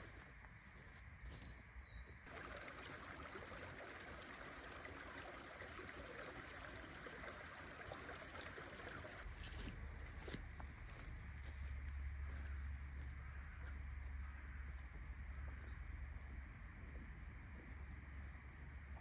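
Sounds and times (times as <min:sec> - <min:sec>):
faint flowing stream: 0:00.0 - 0:19.0.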